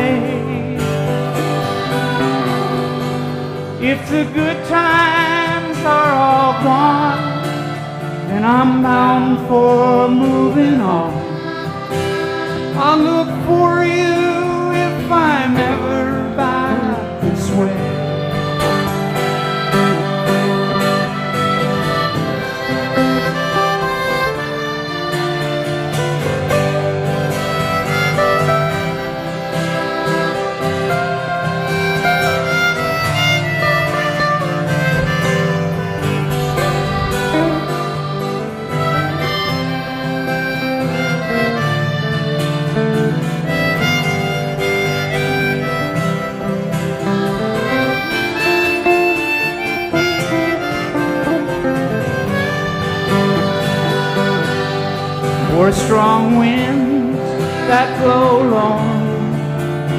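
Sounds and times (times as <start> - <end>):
harmonica melody: 0.0 - 59.9
strummed guitar: 0.0 - 59.9.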